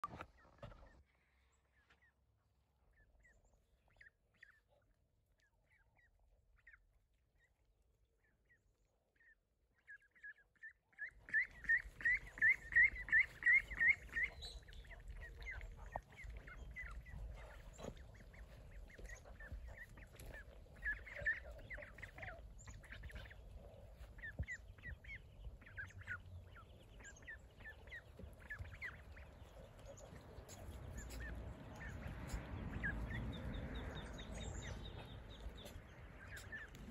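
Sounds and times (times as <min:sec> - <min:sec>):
outdoor background noise: 0:00.0 - 0:36.9
ducklings peeping: 0:02.8 - 0:36.9.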